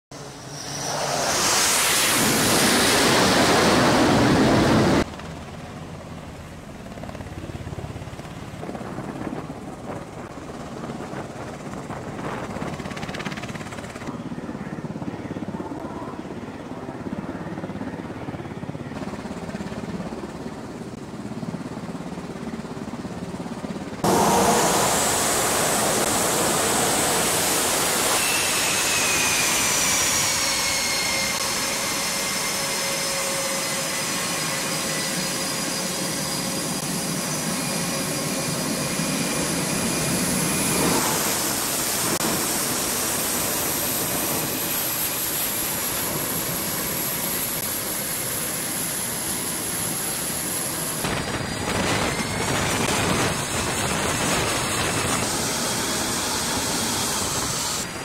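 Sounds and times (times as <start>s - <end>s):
jet engines with turbine whine: 0.1s - 58.0s.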